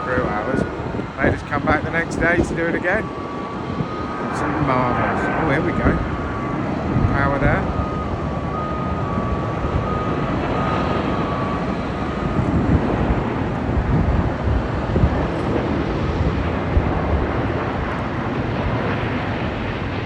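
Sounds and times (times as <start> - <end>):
jet engines rumbling at high power: 0.0 - 20.0
thin engine whine: 0.0 - 20.0.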